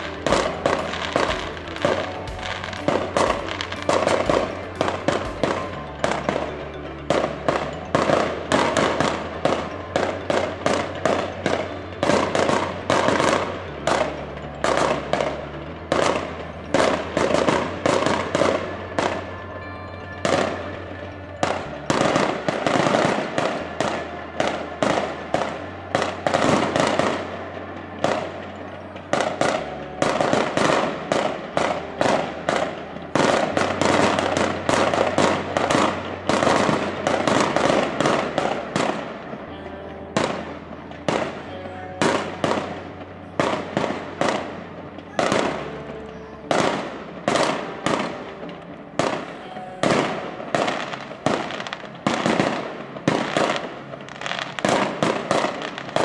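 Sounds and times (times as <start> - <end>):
background music: 0.0 - 56.0
fireworks bursting and crackling: 0.0 - 56.0.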